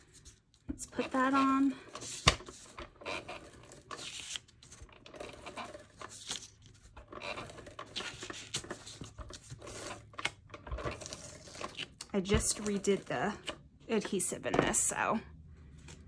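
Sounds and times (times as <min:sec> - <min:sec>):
cardstock rustling and crackling: 0:00.0 - 0:14.9.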